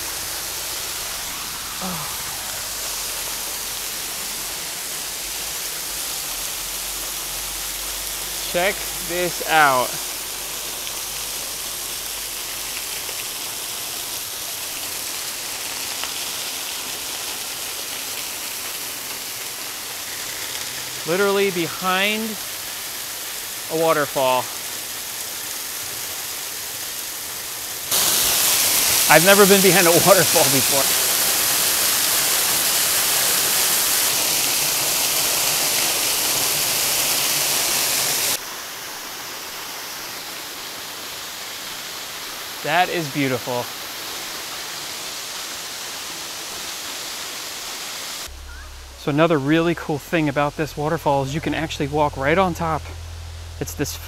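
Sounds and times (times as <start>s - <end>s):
waterfall splashing onto rock: 0.0s - 49.0s.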